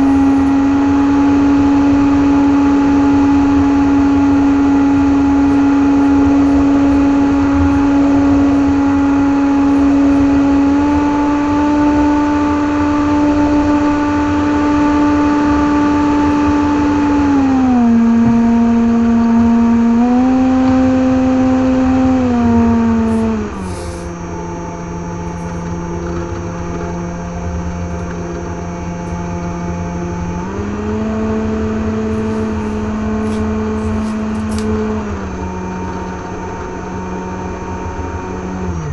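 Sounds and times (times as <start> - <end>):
electric motor buzzing whine: 0.0 - 38.9.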